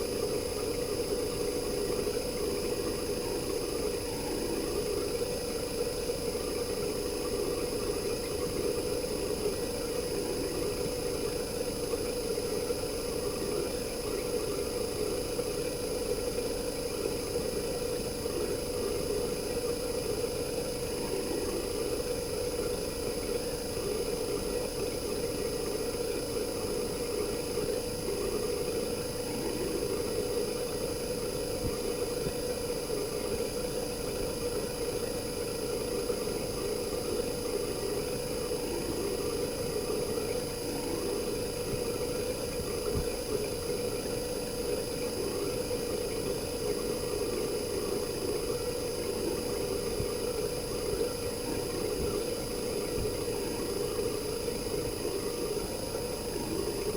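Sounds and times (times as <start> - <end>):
air conditioner compressor drone: 0.0 - 56.9
faint high-pitched whine: 0.0 - 56.9.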